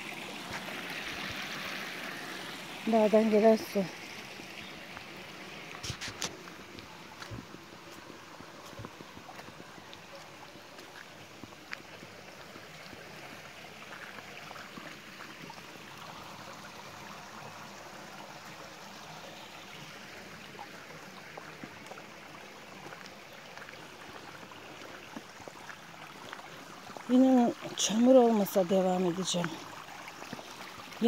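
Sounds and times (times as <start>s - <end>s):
stream water running: 0.0s - 31.0s.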